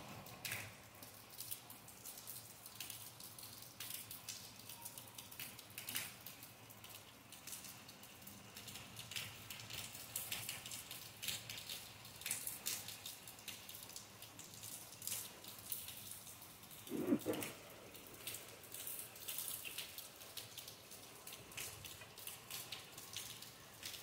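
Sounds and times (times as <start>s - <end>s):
faint rain falling: 0.0s - 24.0s
raindrops dripping on leaves and ground: 0.0s - 24.0s.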